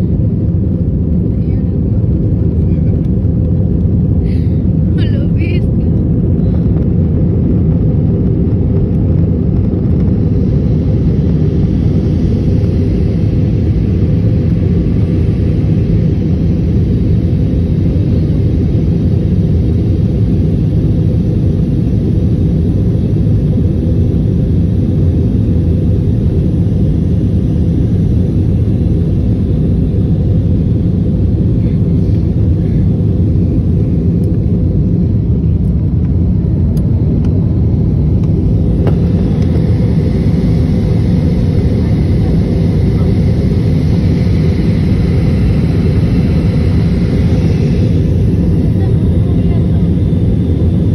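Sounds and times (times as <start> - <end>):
jet engines rumbling in cabin: 0.0 - 50.9.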